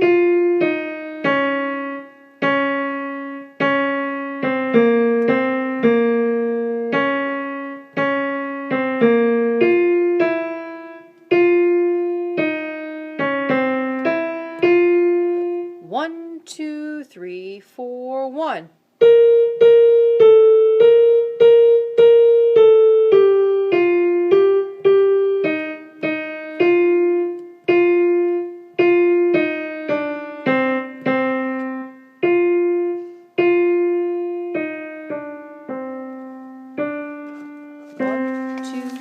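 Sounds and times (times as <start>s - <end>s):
piano single-note melody: 0.0s - 16.3s, 19.0s - 39.0s.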